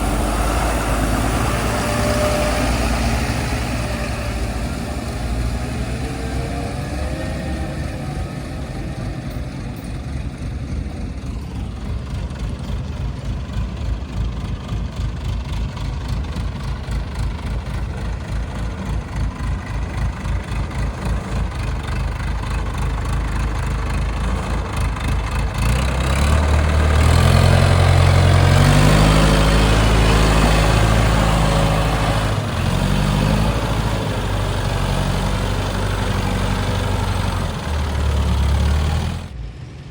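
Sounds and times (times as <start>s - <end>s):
heavy diesel engine revving: 0.0s - 39.4s.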